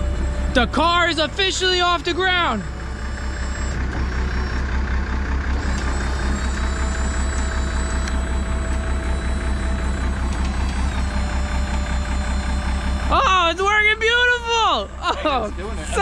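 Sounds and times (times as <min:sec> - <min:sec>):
hydraulic whine: 0:00.0 - 0:16.0
truck engine throbbing: 0:00.0 - 0:16.0.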